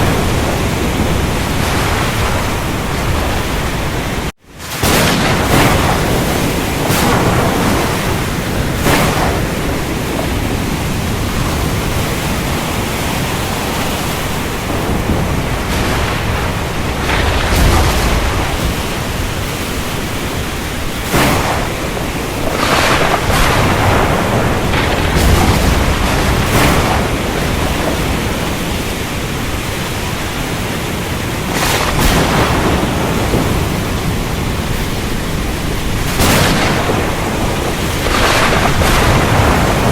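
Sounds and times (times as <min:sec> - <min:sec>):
heavy rain hiss: 0:00.0 - 0:39.9
rolling thunder rumbles: 0:00.0 - 0:39.9
thunder cracks: 0:00.0 - 0:39.9.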